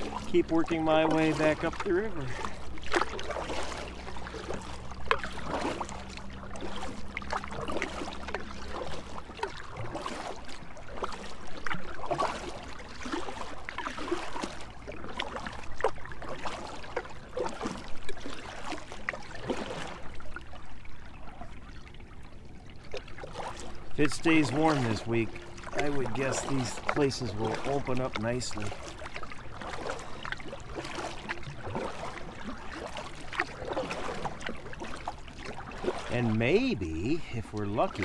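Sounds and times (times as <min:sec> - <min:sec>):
canoe paddle dipping in water: 0:00.0 - 0:38.0
low steady hum: 0:00.0 - 0:38.0
water gurgling along hull: 0:00.0 - 0:38.0.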